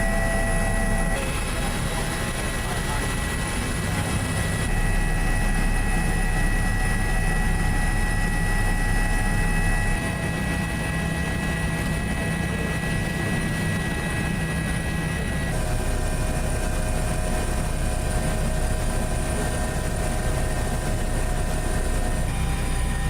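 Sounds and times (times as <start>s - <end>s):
aircraft engine rumble with tones: 0.0s - 23.0s.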